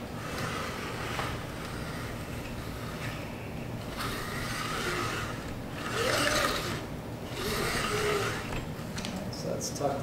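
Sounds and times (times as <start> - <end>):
roller wheel rasping on mesh: 0.0 - 8.7.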